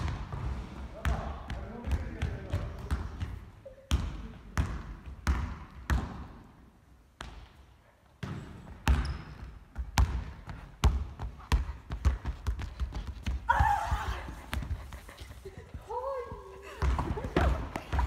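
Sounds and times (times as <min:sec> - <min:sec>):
basketball bouncing on wooden floor: 0:00.0 - 0:06.4, 0:08.2 - 0:14.8, 0:16.3 - 0:18.0.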